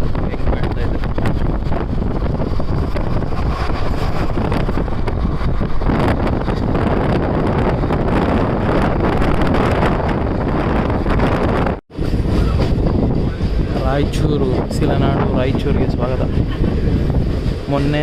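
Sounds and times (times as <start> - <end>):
passenger train rumbling: 0.0 - 18.0
wind buffeting microphone: 0.0 - 18.0.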